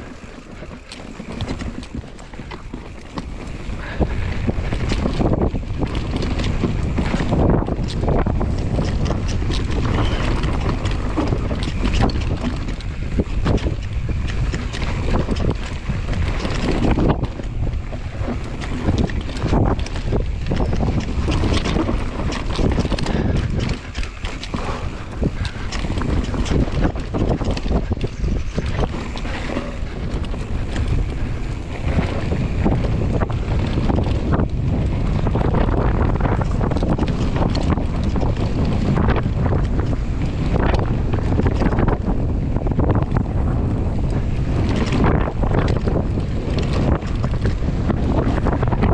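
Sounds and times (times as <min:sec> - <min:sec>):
bike knocking and rattling: 0:00.0 - 0:48.9
tyres running over dirt: 0:00.0 - 0:48.9
wind buffeting microphone: 0:00.0 - 0:48.9.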